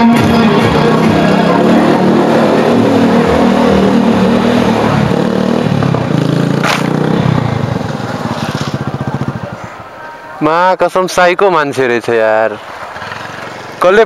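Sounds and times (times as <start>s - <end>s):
motorcycle engine running: 0.1s - 10.0s, 12.6s - 14.0s.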